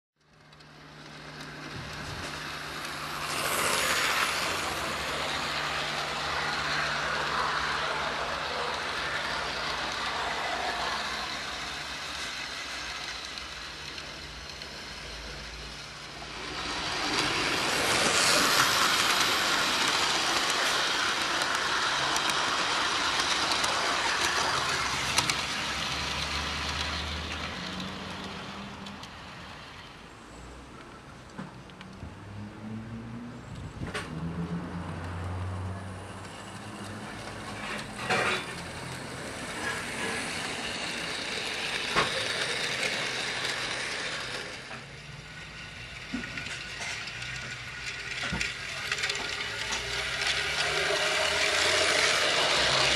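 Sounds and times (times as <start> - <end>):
model train wheels rattling: 0.2 - 29.9, 36.0 - 52.9.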